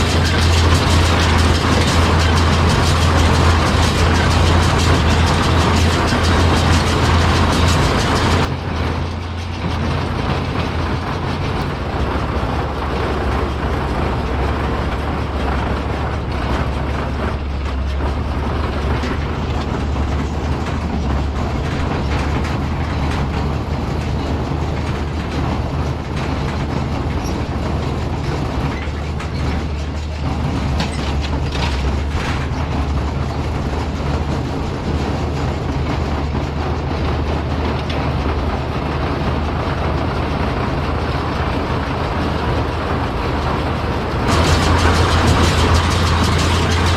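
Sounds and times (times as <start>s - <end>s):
baler mechanical clatter: 0.0s - 46.9s
tractor engine drone: 0.0s - 46.9s.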